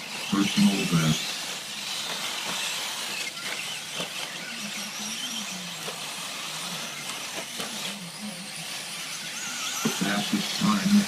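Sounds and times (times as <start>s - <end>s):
rc trucks whining motors: 0.0s - 11.0s.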